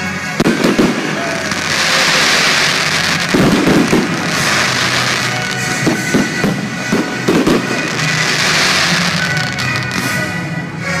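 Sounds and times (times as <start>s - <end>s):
fireworks bangs: 0.0s - 10.7s
fireworks crackling: 0.0s - 11.0s
music: 0.0s - 11.0s.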